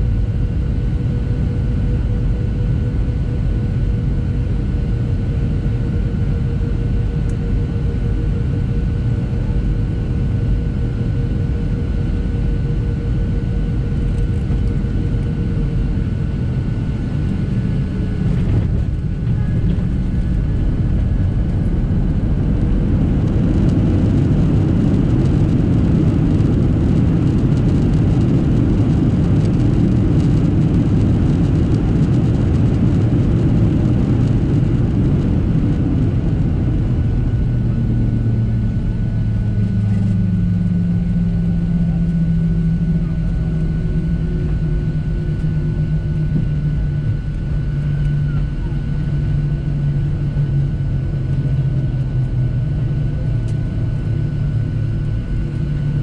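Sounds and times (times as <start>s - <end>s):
jet engines rumbling with whine: 0.0s - 56.0s
low rumble of runway rollout: 0.0s - 56.0s
jet touching down: 8.8s - 56.0s.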